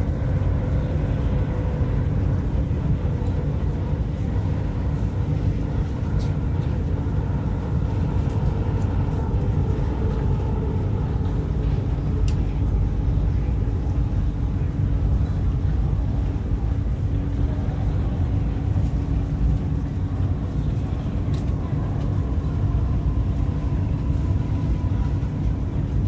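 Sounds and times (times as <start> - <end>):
train cabin rumble and hum: 0.0 - 26.0.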